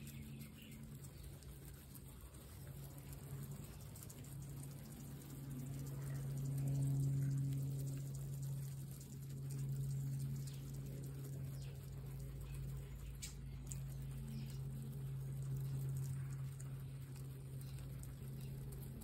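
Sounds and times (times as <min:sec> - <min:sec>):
guinea pigs chewing grass: 0:00.0 - 0:19.0
steady low hum: 0:00.0 - 0:19.0.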